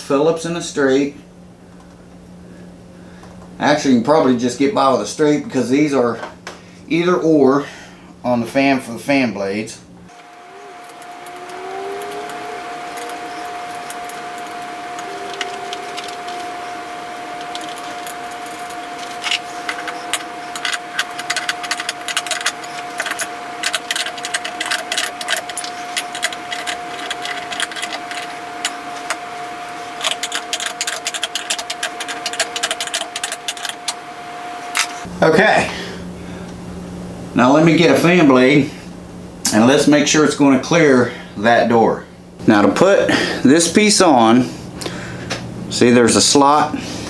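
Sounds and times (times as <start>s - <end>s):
steady high hum: 0.0s - 47.0s.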